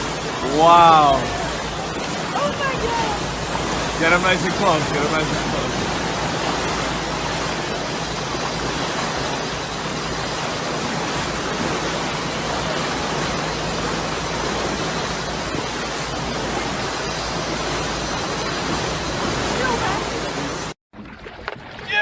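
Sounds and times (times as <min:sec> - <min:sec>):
rushing water: 0:00.0 - 0:22.0
wind: 0:00.0 - 0:22.0.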